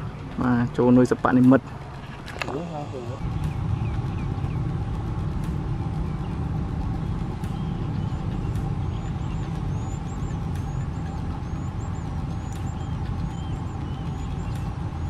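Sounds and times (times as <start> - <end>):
faint hum: 0.0 - 15.0
low rumble: 0.0 - 15.0
small birds chirping: 0.3 - 15.0.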